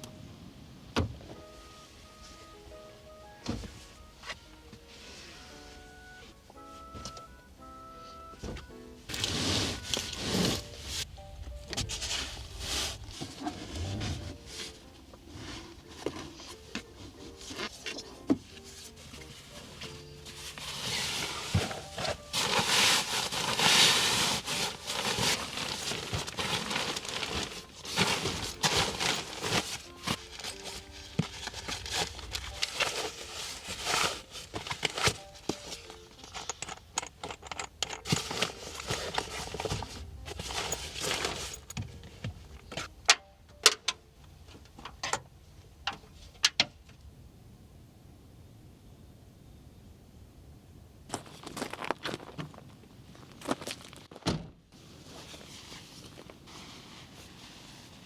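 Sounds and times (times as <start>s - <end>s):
rustling and clattering objects: 3.4s - 7.3s, 8.0s - 46.8s, 51.1s - 58.0s.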